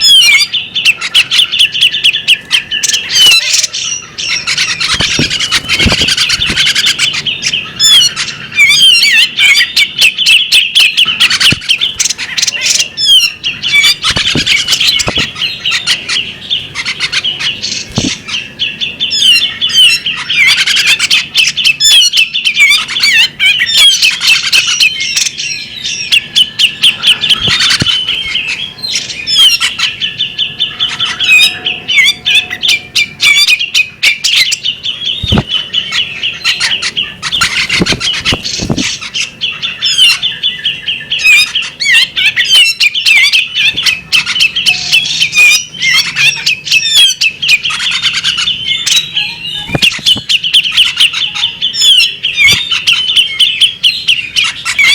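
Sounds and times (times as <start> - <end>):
bird singing chattering song: 0.0 - 54.9.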